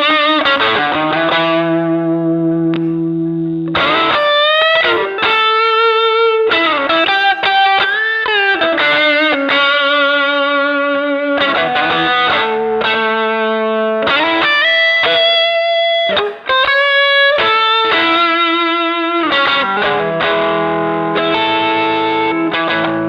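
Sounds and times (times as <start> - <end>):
electric guitar picked notes: 0.0 - 23.0.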